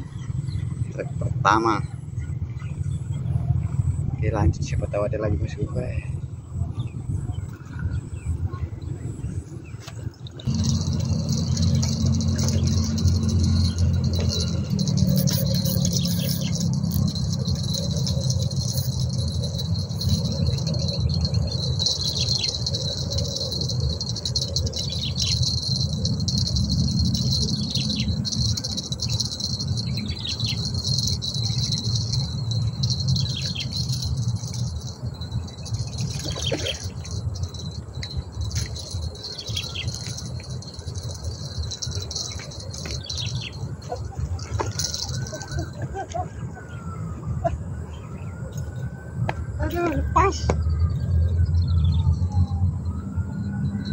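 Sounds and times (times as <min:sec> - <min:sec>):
low rumbling noise: 0:00.0 - 0:47.4
high-pitched insect chorus: 0:09.2 - 0:53.9.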